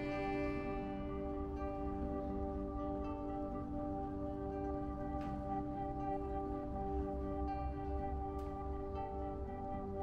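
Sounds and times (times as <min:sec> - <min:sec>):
ambient music with ringing tones: 0:00.0 - 0:10.0.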